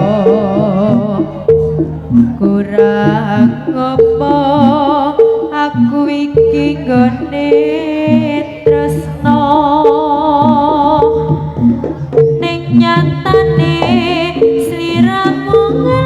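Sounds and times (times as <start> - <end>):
hand drum hits: 0.0 - 16.0
wavering vibrato melody: 0.0 - 16.0.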